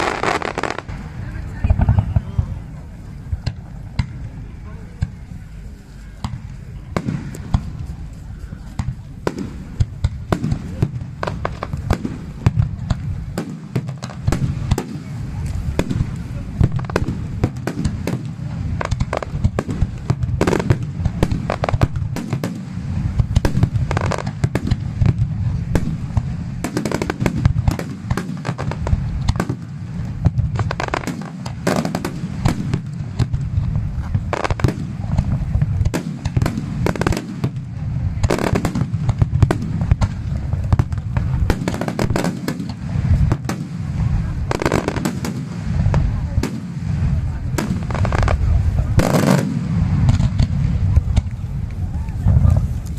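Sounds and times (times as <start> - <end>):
fireworks bursts: 0.0 - 52.9.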